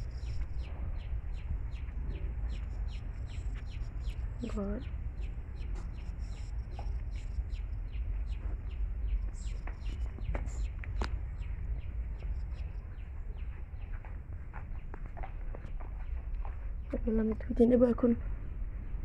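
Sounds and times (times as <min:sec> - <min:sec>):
birds chirping: 0:00.0 - 0:18.2.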